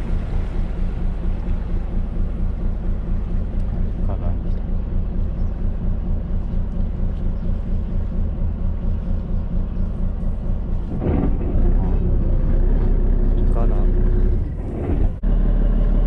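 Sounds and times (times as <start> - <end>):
boat engine low throb: 0.0 - 16.0.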